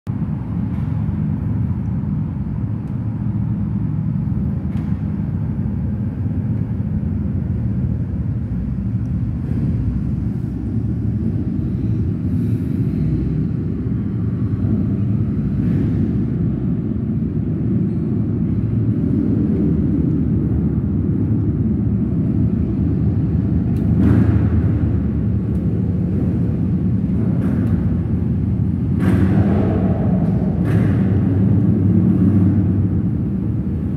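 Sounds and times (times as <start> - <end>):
motorcycle engines idling and pulling away: 0.1 - 33.9.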